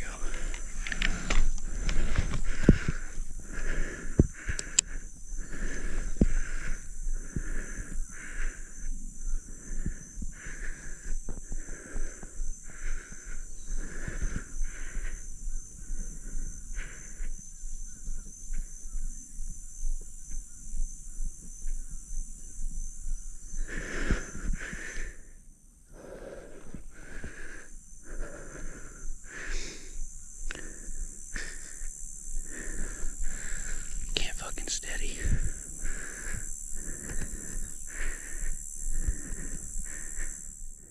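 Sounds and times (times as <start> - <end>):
man breathing heavily: 0.0 - 19.6, 21.2 - 40.9
high insect drone: 0.0 - 40.9.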